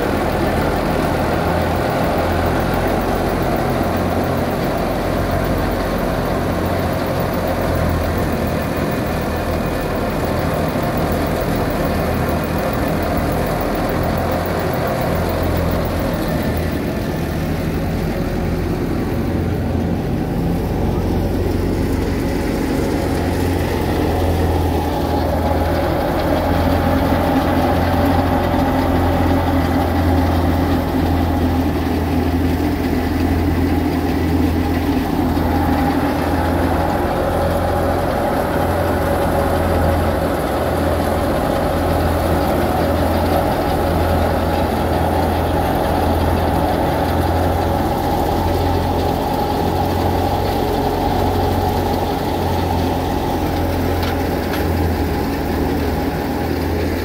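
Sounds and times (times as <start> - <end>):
engine humming: 0.0 - 57.0
wheat thresher running: 0.0 - 57.0.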